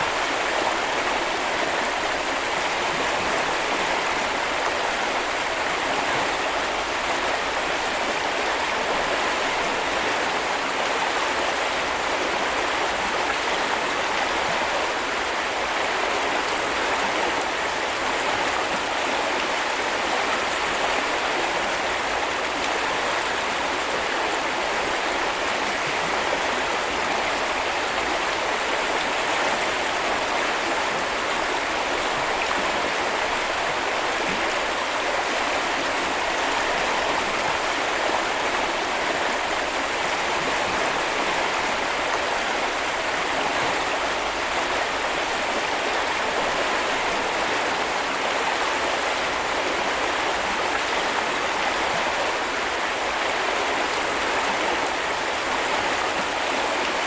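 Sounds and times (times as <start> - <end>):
brook flowing over stones: 0.0 - 57.0.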